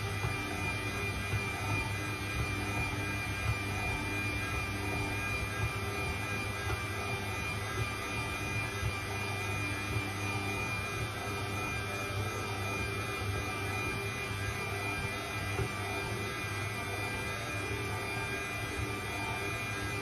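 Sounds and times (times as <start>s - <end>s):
stand mixer motor humming: 0.0s - 20.0s.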